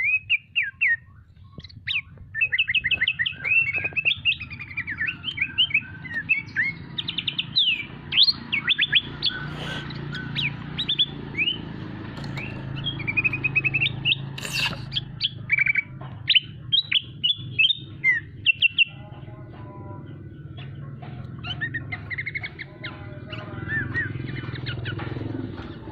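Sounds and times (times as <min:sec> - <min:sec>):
small songbird chirping: 0:00.0 - 0:25.9.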